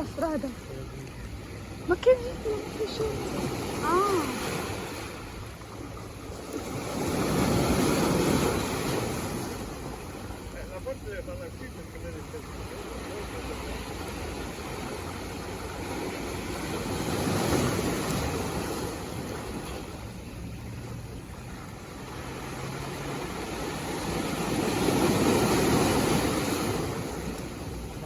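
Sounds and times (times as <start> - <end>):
sea waves washing in: 0.0 - 28.0.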